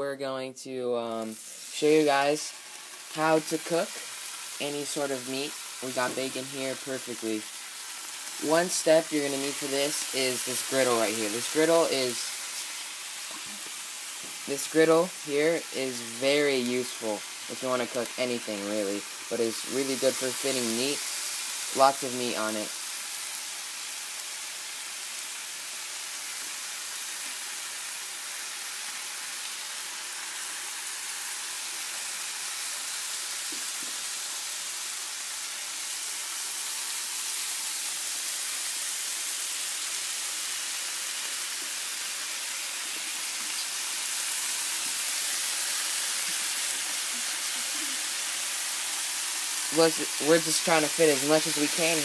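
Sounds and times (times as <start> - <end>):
bacon sizzling on a griddle: 1.1 - 52.0.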